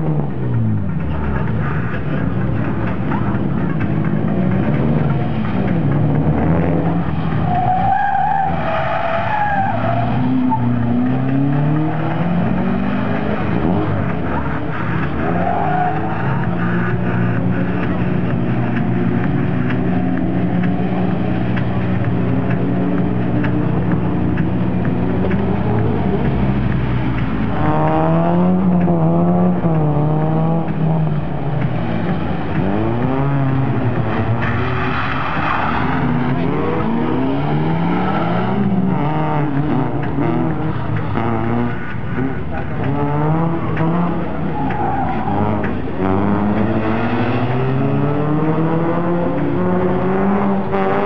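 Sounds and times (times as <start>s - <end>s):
car engine accelerating: 0.0s - 51.0s
car tyres squealing: 0.0s - 51.0s.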